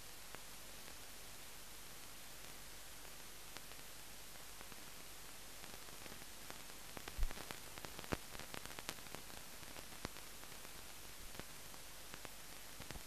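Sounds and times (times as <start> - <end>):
steady film hiss: 0.0 - 13.0.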